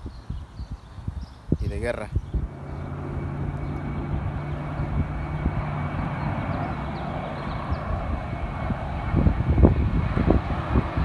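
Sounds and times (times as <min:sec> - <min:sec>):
jet airliner engine rumble: 0:00.0 - 0:11.0.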